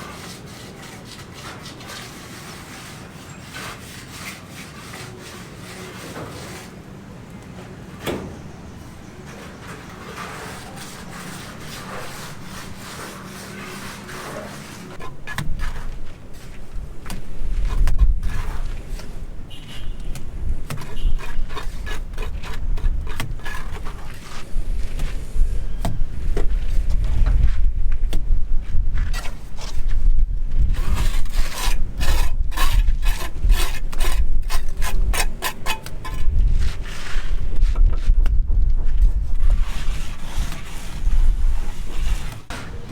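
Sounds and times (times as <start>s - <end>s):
scraping and rubbing: 0.0s - 6.8s, 9.2s - 25.6s, 28.6s - 42.9s.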